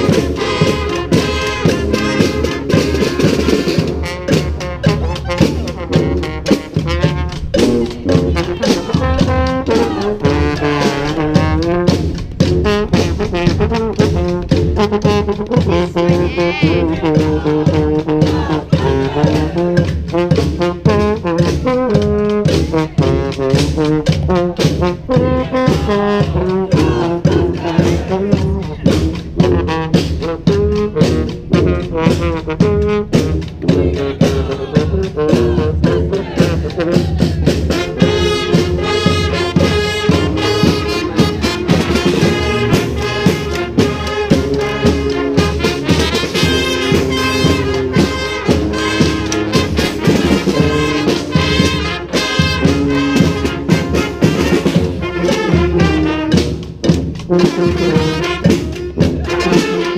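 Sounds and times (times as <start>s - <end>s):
driving percussion beat: 0.0s - 59.9s
trombones and trumpets: 0.0s - 59.9s.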